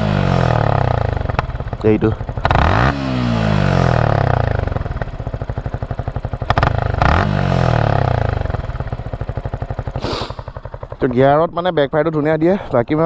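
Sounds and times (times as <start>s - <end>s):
motorcycle engine revving: 0.0s - 13.0s
pulsing engine idle: 0.0s - 13.0s.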